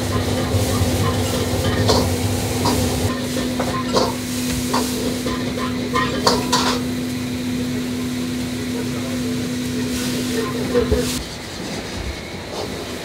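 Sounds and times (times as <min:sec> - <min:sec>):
kitchen hiss and hum: 0:00.0 - 0:13.0.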